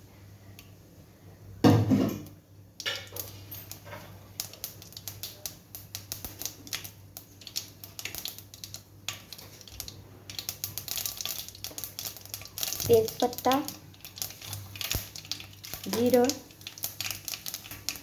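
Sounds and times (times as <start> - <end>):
seeds popping in hot oil: 1.8 - 18.0.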